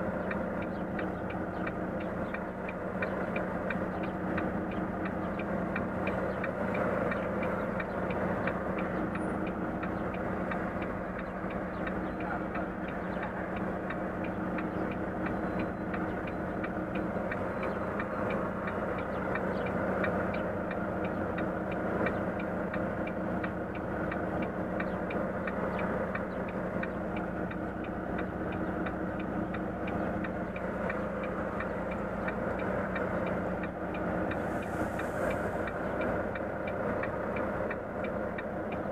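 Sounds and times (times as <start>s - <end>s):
regular ticking: 0.0s - 38.9s
truck diesel engine humming: 0.0s - 38.9s.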